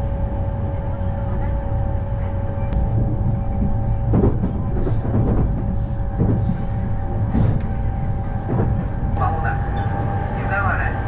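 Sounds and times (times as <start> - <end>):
constant hum: 0.0 - 11.0
train wheels rumbling on rails: 0.0 - 11.0.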